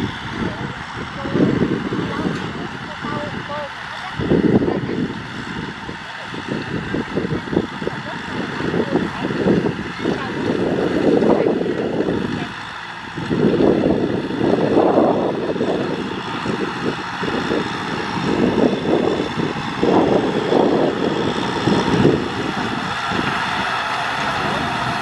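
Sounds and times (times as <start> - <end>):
tiller churning soil: 0.0 - 25.0
tractor diesel engine under load: 0.0 - 25.0.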